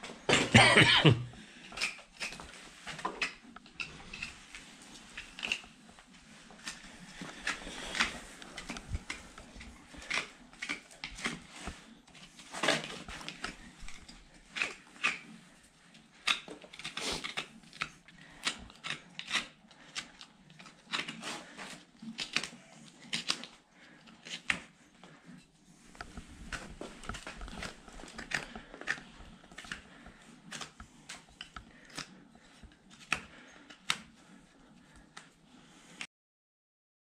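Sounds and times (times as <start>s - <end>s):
hoof being scraped and cut: 1.6s - 35.2s.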